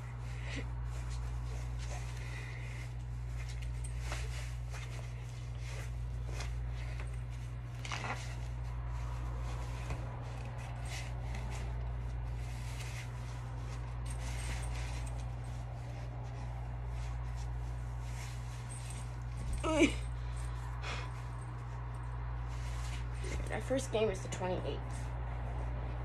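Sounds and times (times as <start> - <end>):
fabric rustling: 0.0 - 26.0
steady low hum: 0.0 - 26.0.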